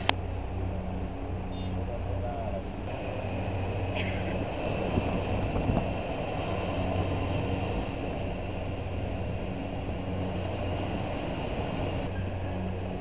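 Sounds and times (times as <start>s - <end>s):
bus engine hum: 0.0s - 13.0s
road and wind noise: 0.0s - 13.0s.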